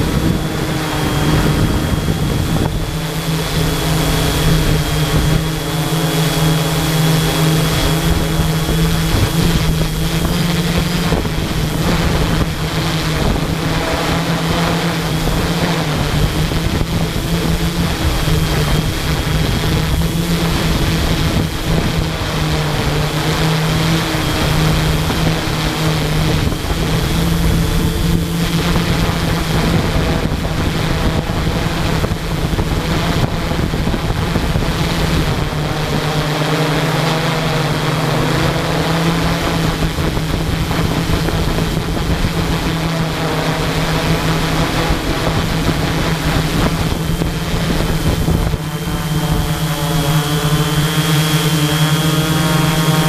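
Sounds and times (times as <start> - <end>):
drone motors humming: 0.0 - 53.0
wind rush: 0.0 - 53.0.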